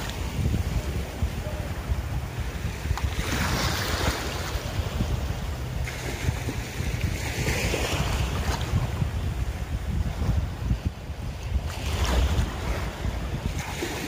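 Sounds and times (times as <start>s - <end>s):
sea water splashing: 0.0s - 9.0s, 11.5s - 14.0s
wind buffeting microphone: 0.0s - 14.0s.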